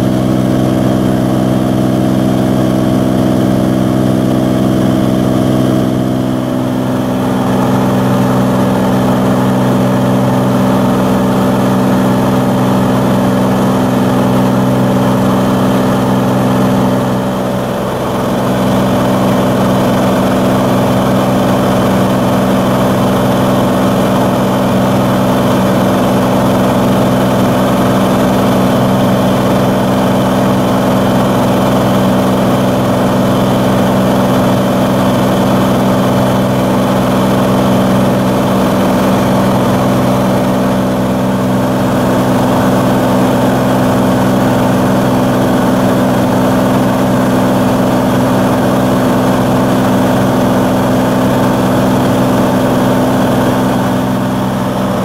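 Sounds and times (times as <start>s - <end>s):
aircraft engine droning: 0.0s - 55.0s.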